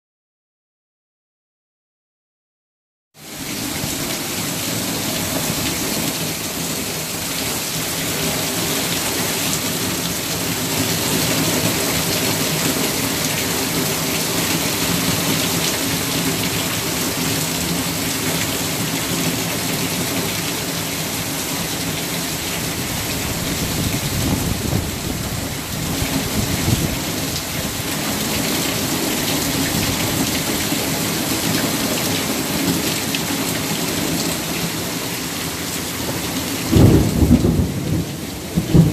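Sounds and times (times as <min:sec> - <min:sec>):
heavy rain pouring: 0:03.2 - 0:38.9.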